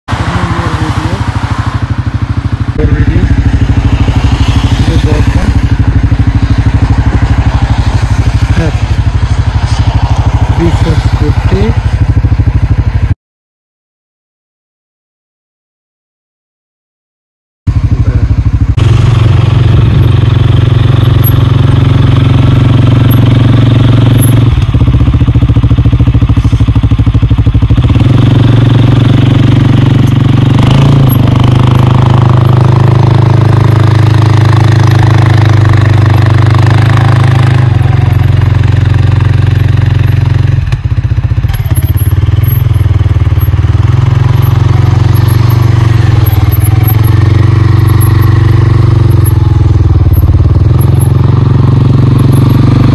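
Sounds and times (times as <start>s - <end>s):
atv engine running: 0.1s - 13.2s, 17.7s - 52.9s.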